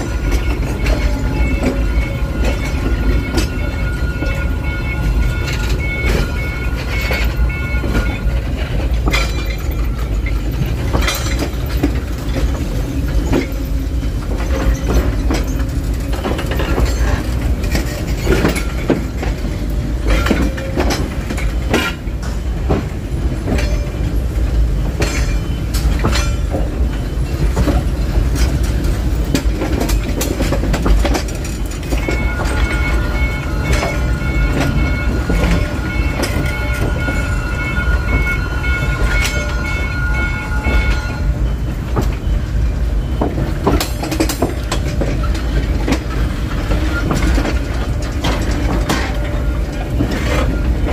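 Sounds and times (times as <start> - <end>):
diesel locomotive engine rumbling: 0.0 - 50.9
train wheels clacking over rail joints: 0.0 - 50.9.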